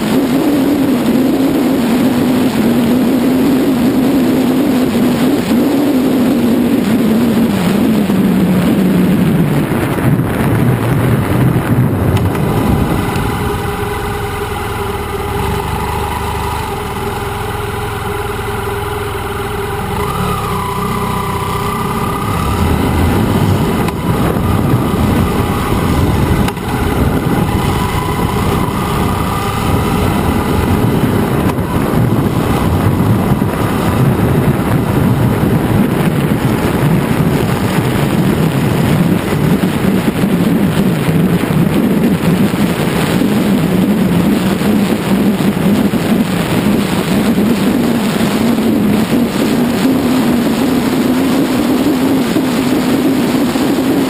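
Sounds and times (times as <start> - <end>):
motorcycle engine: 0.0 - 54.0
wind and road noise: 0.0 - 54.0.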